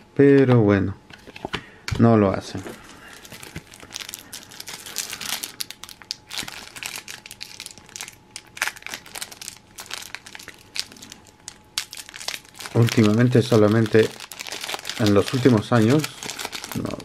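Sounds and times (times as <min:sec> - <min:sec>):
foil pack crinkling and tearing: 0:02.8 - 0:17.0.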